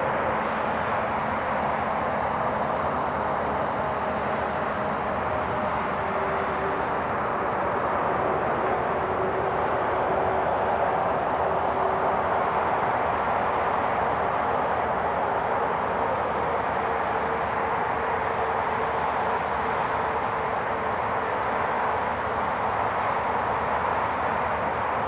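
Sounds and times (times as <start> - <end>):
distant freight train rumble: 0.0 - 25.0.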